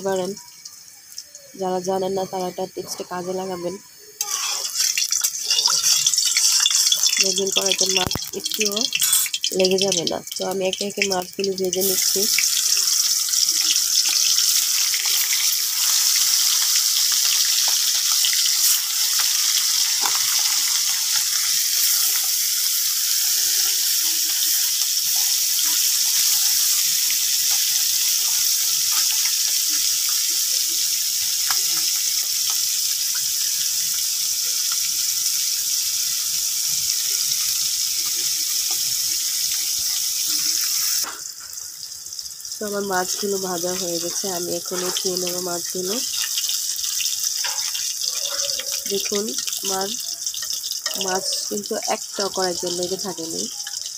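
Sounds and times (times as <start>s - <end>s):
fish sizzling in hot oil: 0.0s - 53.9s
oil popping and crackling: 4.2s - 53.9s.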